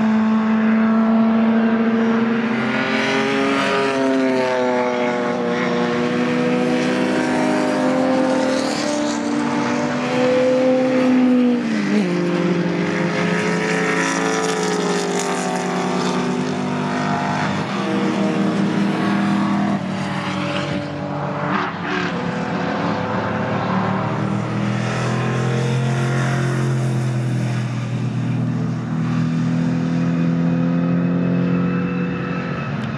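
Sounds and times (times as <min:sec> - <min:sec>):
racing car engines passing: 0:00.0 - 0:32.9.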